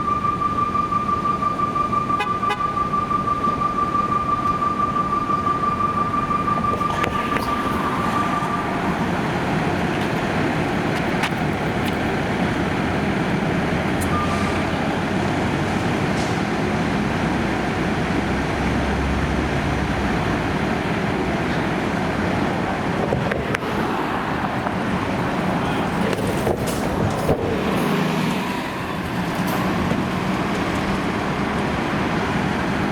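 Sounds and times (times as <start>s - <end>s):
passing vehicles: 0.0s - 32.9s
low engine rumble: 5.1s - 32.9s.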